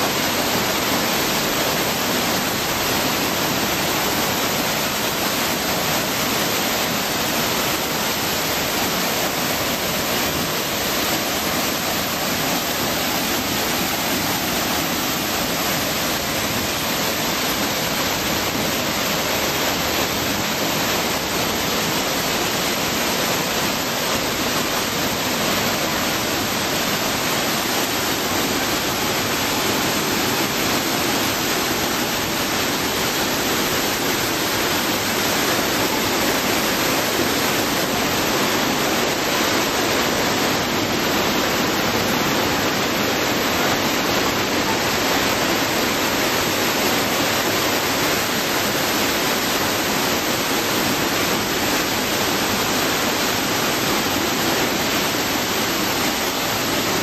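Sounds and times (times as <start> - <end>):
waterfall splashing on rocks: 0.0 - 57.0.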